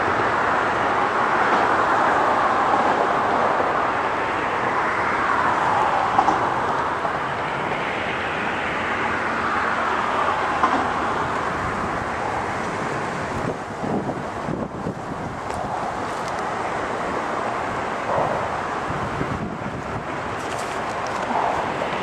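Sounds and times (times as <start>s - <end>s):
train wheels rushing on rails: 0.0s - 22.0s.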